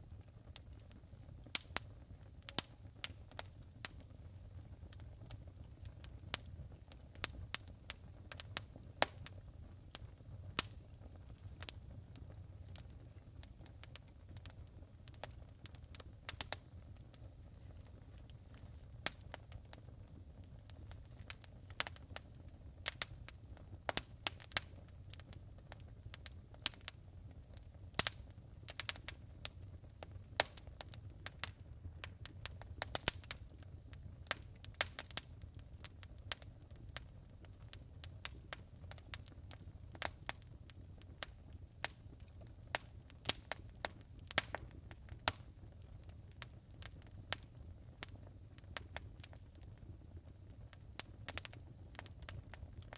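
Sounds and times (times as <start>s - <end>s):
fire crackling and popping: 0.0s - 52.9s.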